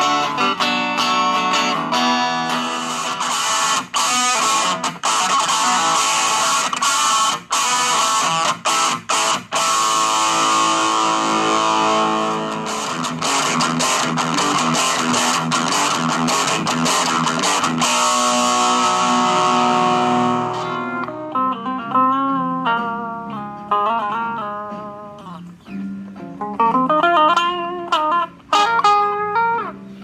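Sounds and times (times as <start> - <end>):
electric guitar chords: 0.0 - 30.0.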